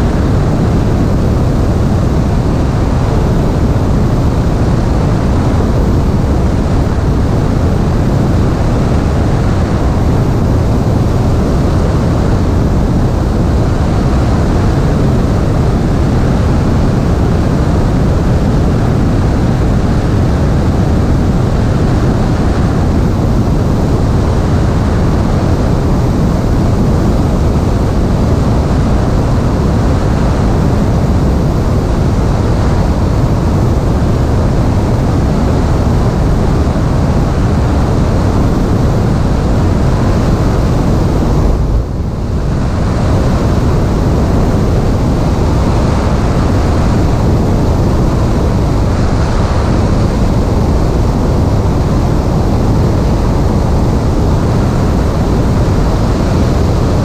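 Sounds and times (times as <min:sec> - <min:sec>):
airplane engine and propeller: 0:00.0 - 0:57.0
wind rushing over microphone: 0:00.0 - 0:57.0.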